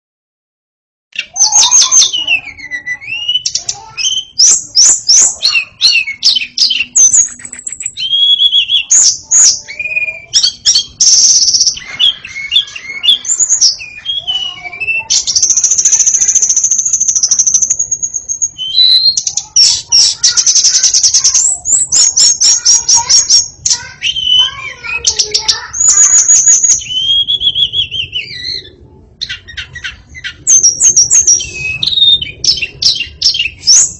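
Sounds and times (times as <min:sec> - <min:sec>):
bird singing varied song: 0:01.1 - 0:33.9.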